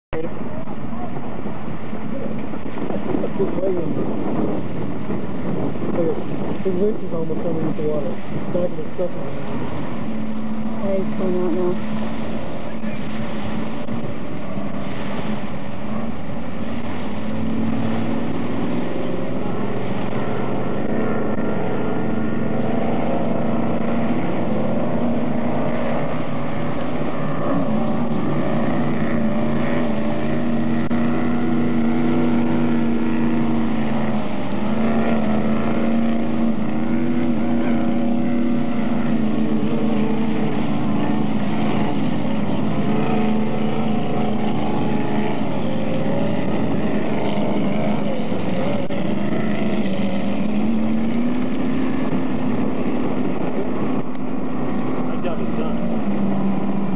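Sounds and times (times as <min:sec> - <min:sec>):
jetboat engine running: 0:00.1 - 0:56.9.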